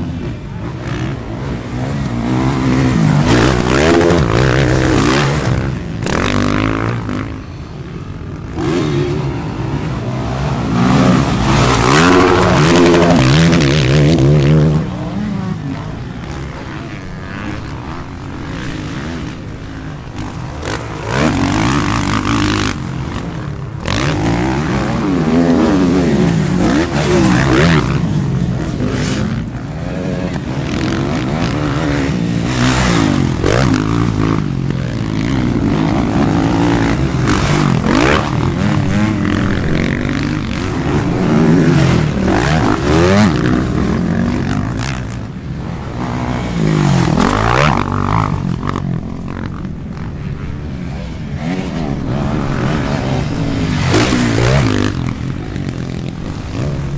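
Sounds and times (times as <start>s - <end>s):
motocross bikes revving: 0.0s - 56.9s.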